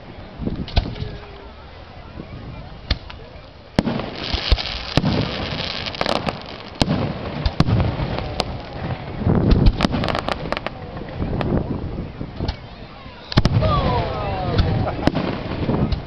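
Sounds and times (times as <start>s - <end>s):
fireworks crackling: 0.0s - 16.0s
fireworks booming and cracking: 2.2s - 12.7s, 13.3s - 16.0s.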